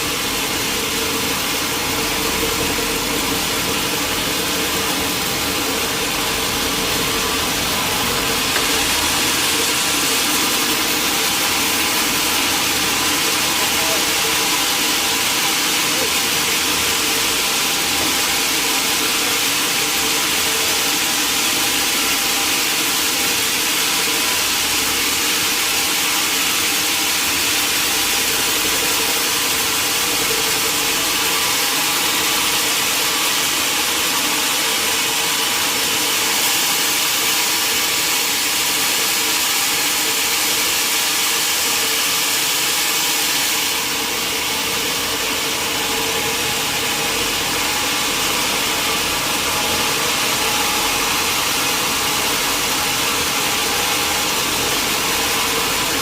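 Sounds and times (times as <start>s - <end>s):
sawmill machinery whirring hum: 0.0s - 56.0s.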